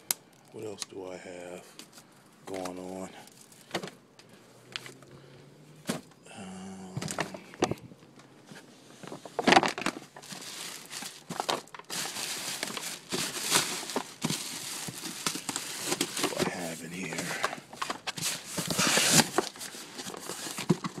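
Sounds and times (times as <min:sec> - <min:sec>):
plastic bags rustling and crinkling: 0:00.0 - 0:04.0, 0:06.8 - 0:21.0.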